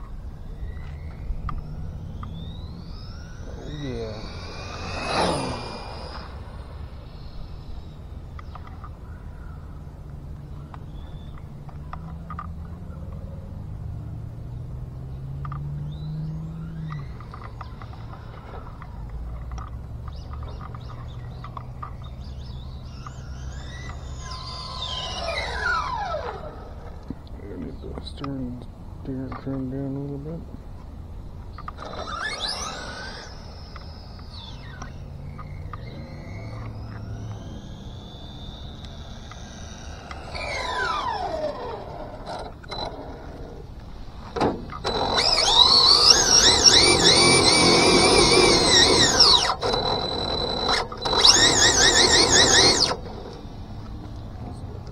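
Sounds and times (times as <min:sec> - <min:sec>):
birds chirping: 0:00.0 - 0:54.9
electric motor and gear whine: 0:00.0 - 0:54.9.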